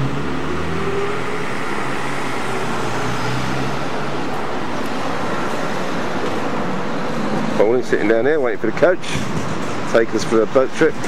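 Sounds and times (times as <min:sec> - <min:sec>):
cars passing: 0:00.0 - 0:11.0
engine low hum: 0:00.0 - 0:11.0.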